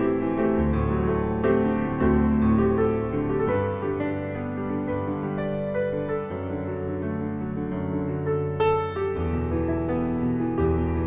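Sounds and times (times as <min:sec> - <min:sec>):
digital piano chords: 0:00.0 - 0:11.0.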